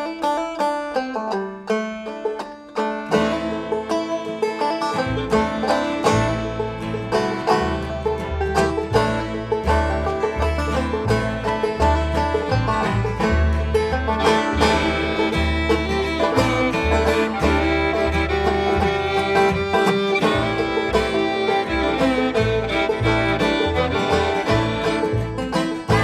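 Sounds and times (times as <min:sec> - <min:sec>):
fiddle: 0:00.0 - 0:26.0
guitar: 0:00.0 - 0:26.0
picked banjo: 0:00.0 - 0:26.0
low bass notes: 0:01.8 - 0:26.0.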